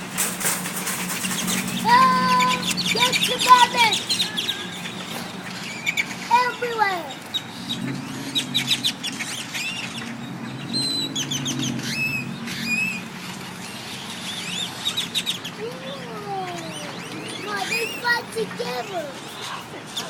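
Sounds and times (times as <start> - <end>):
flock of birds chirping: 0.0 - 20.0.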